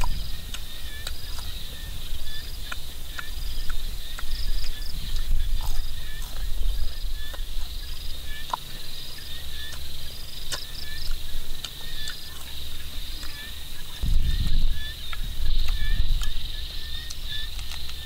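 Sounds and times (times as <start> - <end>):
crunching and chewing: 0.0 - 18.0
high insect drone: 0.0 - 18.0.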